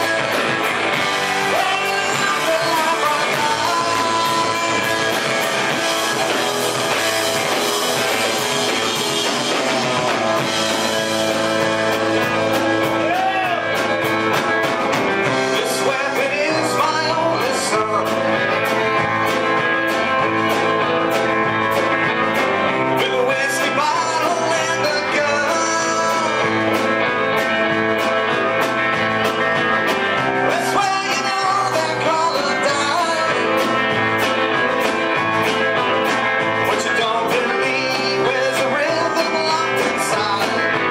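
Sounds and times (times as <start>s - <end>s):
drum beat: 0.0s - 40.9s
electric guitar: 0.0s - 40.9s.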